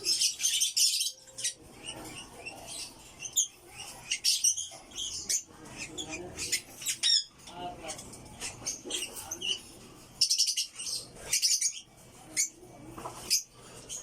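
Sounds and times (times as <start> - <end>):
lovebird chirping and squawking: 0.0 - 12.6.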